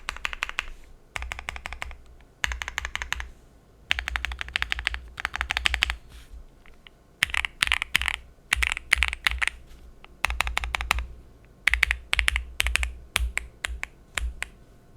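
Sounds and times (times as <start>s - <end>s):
mechanical keyboard typing: 0.0s - 3.3s, 3.9s - 6.0s, 6.7s - 14.5s.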